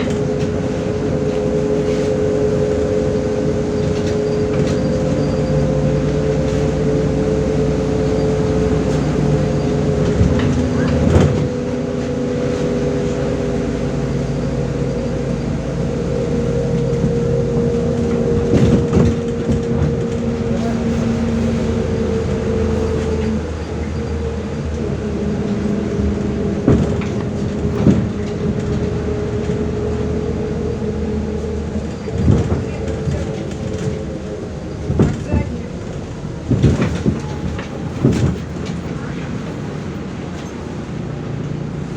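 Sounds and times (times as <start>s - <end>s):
bus body knocks and rattles: 0.0s - 41.9s
bus engine drone with whine: 0.0s - 41.9s.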